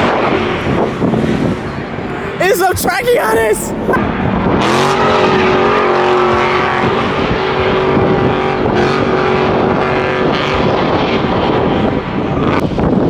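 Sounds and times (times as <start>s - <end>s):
car engine running at high speed: 0.0s - 2.4s, 3.7s - 13.0s.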